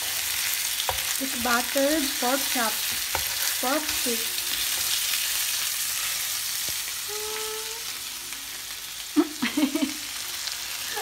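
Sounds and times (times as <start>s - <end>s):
pork chops sizzling in a pan: 0.0s - 11.0s.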